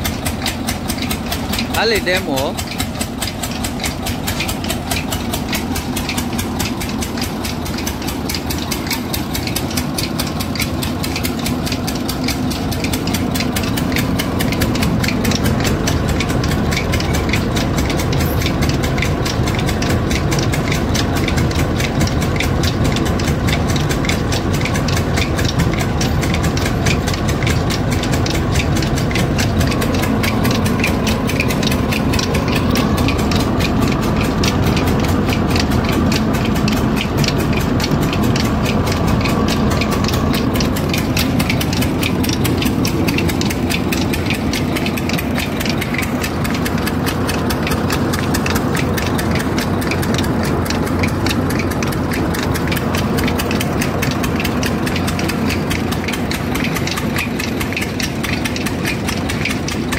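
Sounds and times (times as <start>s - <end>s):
thresher mechanical clatter: 0.0s - 59.9s.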